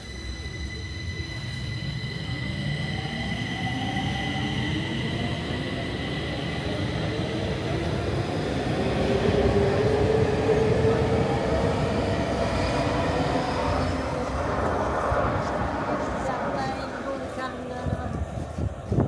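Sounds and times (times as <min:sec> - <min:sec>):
train wheel rumble: 0:00.0 - 0:19.0.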